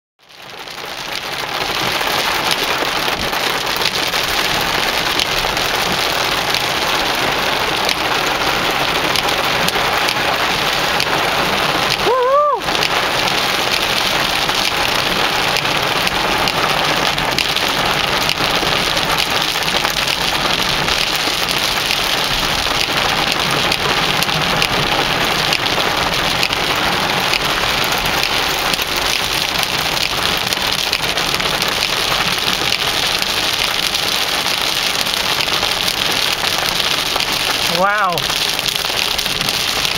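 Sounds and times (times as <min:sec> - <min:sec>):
heavy rain on car roof: 0:00.2 - 0:39.9.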